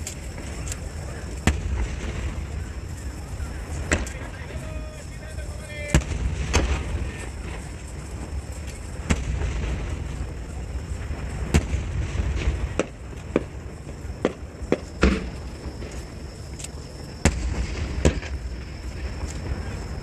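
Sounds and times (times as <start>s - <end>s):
fireworks bursting bangs: 0.0s - 20.0s.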